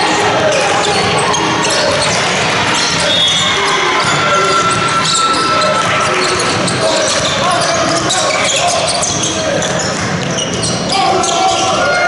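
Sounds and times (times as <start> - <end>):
sports hall noise: 0.0 - 12.0.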